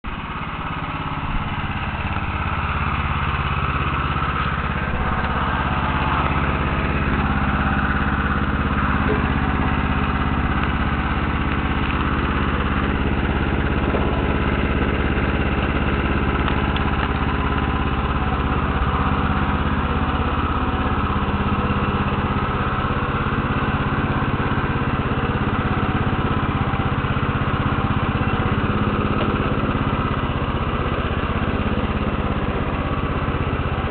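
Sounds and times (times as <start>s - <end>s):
small engine running: 0.0s - 33.9s.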